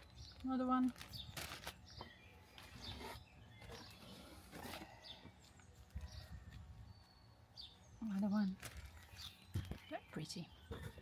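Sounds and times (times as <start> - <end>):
plant packaging rustling: 0.0 - 11.0.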